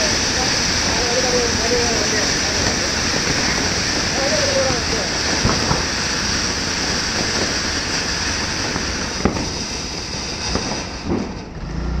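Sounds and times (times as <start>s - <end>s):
sharp firework cracks: 0.0s - 11.8s
firework fountain hissing: 0.0s - 12.0s.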